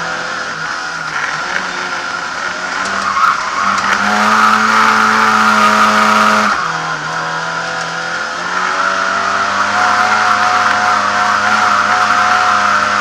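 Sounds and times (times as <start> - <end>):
car engine at high revs from inside: 0.0 - 13.0.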